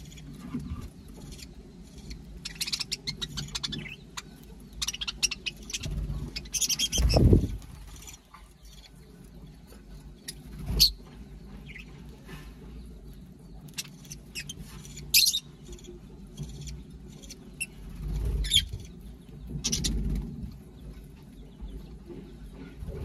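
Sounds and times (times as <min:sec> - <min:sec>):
birds chirping shrilly: 0:00.0 - 0:09.2, 0:10.0 - 0:20.5.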